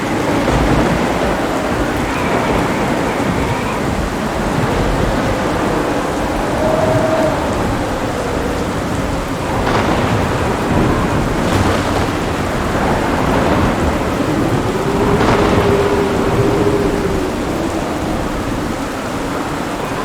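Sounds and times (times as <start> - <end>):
heavy rain falling: 0.0 - 20.0
thunder cracks: 0.0 - 20.0
thunder rumbling: 0.0 - 20.0.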